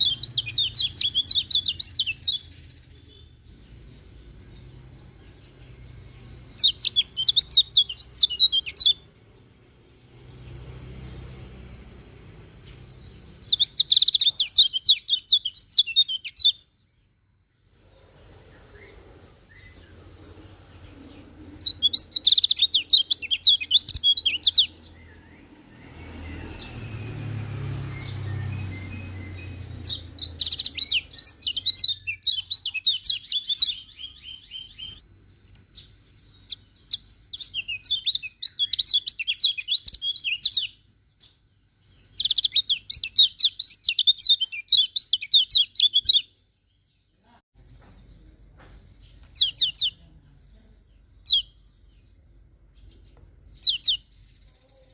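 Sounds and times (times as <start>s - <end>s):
bird twittering song: 0.0s - 54.9s.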